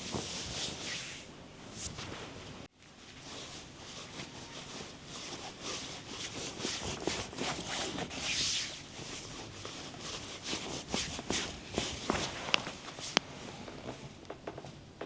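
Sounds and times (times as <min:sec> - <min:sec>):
hands rubbing over skin: 0:00.0 - 0:13.2.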